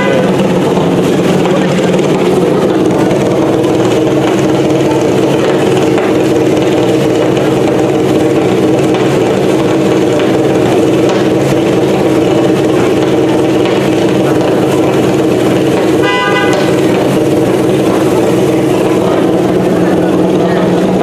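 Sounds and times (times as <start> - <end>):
rally car engine idling: 0.0 - 21.0.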